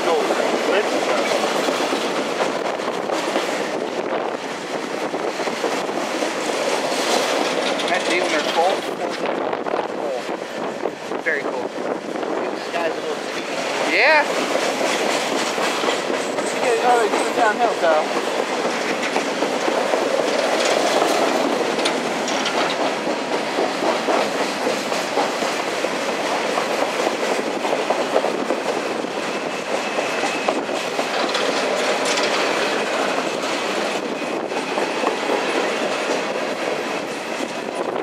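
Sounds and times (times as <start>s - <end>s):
wheels clicking over rail joints: 0.0s - 9.4s, 13.0s - 38.0s
freight train rumbling and rattling: 0.0s - 38.0s.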